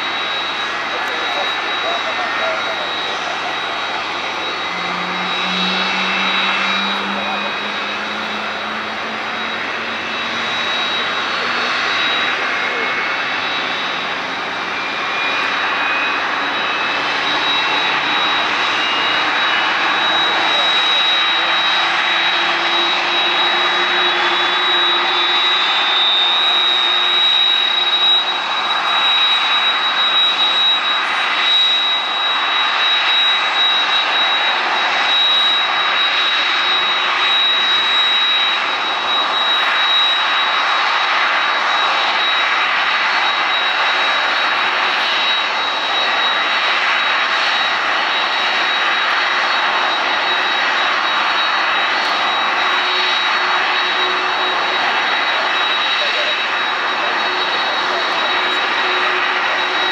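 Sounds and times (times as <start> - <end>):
high engine whine: 0.0 - 59.9
jet engines hissing: 0.0 - 59.9.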